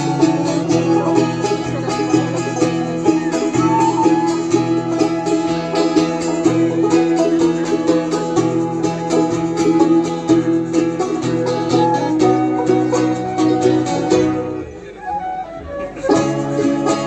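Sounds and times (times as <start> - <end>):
band playing folk music: 0.0 - 17.0.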